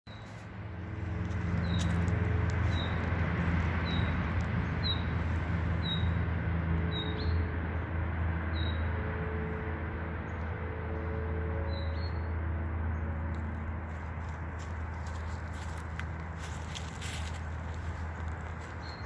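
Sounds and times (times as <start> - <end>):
low hum: 0.1 - 19.0.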